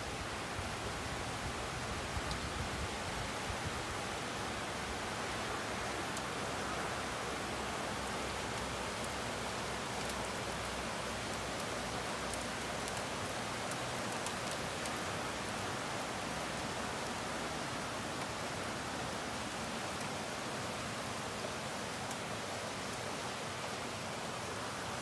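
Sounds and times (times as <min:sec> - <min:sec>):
sharp ticks of raindrops: 0:00.1 - 0:25.0
heavy rain pouring: 0:00.2 - 0:25.0.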